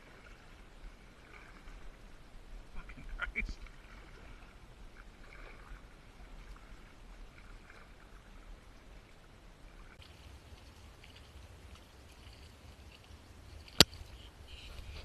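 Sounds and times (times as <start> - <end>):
paddle splashes and water trickling: 0.0 - 15.0.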